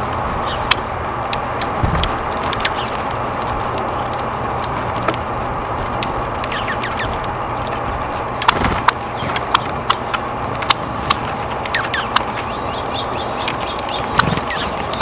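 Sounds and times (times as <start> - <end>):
steady hum and hiss: 0.0 - 15.0
sharp ticks: 0.1 - 15.0.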